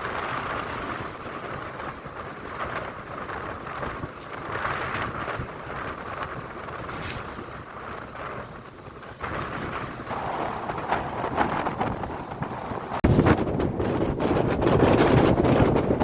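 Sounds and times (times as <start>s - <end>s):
ocean waves on shore: 0.0s - 13.1s.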